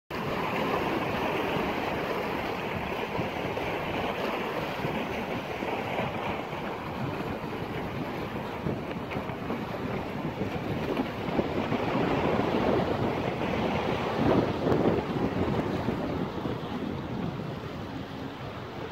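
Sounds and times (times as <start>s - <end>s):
waves washing against rocks: 0.1s - 18.9s
wind buffeting microphone: 0.1s - 18.9s.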